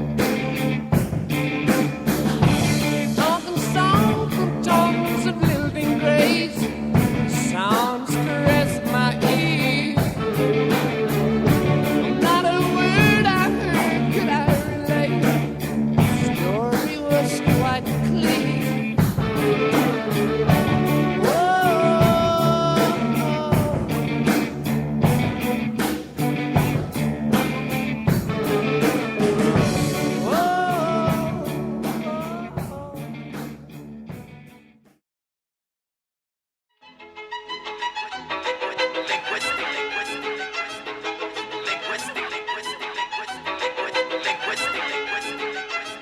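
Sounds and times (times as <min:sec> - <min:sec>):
rock music: 0:00.0 - 0:34.8, 0:37.4 - 0:46.0.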